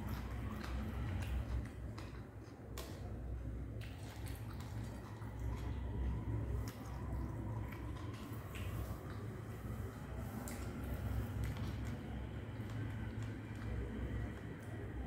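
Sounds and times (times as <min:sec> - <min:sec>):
fingers squishing rice: 0:00.0 - 0:15.0
person chewing food: 0:00.0 - 0:15.0.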